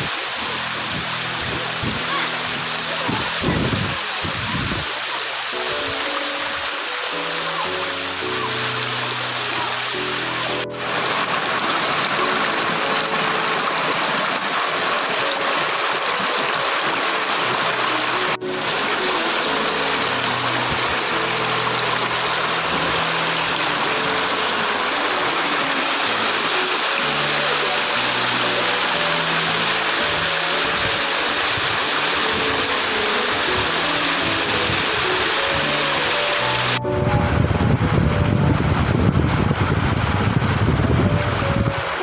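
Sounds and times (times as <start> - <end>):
background music of held notes: 0.0 - 42.0
water rushing over rocks: 0.0 - 42.0.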